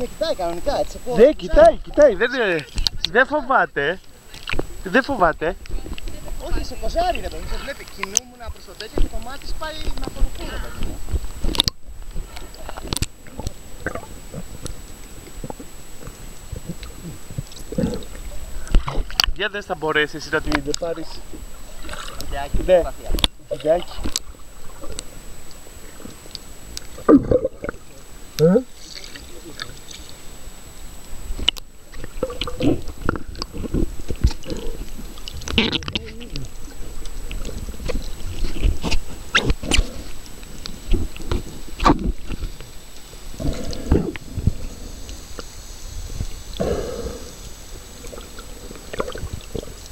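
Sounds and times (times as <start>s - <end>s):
underwater clicks and crackles: 1.4s - 3.2s, 4.3s - 30.2s, 31.0s - 45.6s, 47.3s - 49.9s.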